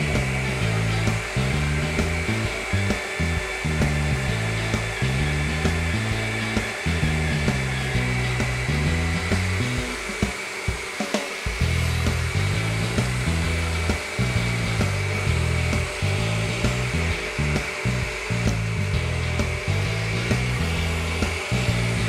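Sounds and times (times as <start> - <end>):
blender running: 0.0 - 22.0.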